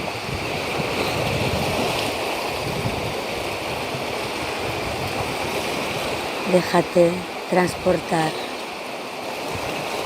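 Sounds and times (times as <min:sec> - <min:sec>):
sea waves washing on shore: 0:00.0 - 0:10.0.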